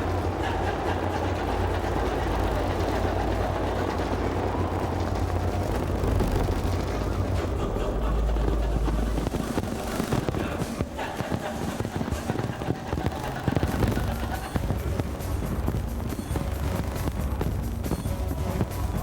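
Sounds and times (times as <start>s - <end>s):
fireworks barrage rumbling: 0.0s - 19.0s.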